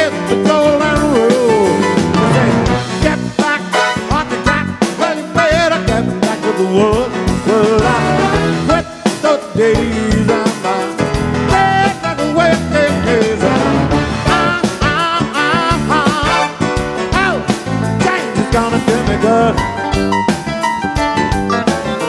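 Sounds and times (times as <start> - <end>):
man singing: 0.0 - 20.6, 21.2 - 22.0
piano and keyboards: 0.0 - 22.0
steady drum beat: 0.0 - 22.0.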